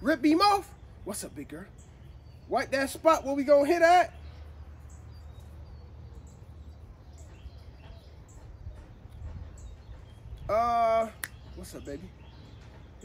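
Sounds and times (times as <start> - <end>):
faint bird chirps: 0.7 - 13.0.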